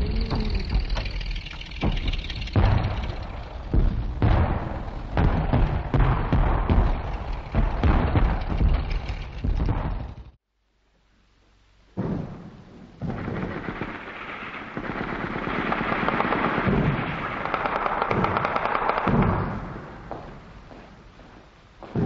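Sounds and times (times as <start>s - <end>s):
artillery guns firing: 0.6s - 10.4s, 12.0s - 20.1s.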